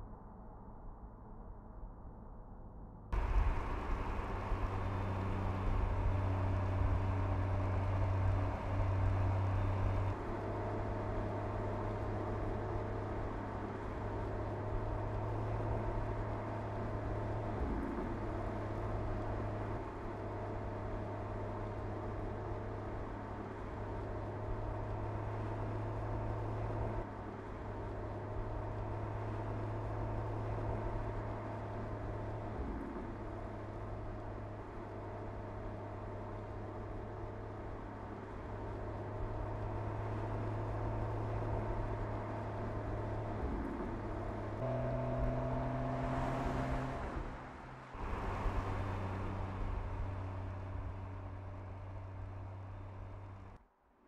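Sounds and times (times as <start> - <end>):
car engine cruising: 3.2 - 53.6
tyre and road noise: 3.2 - 53.6.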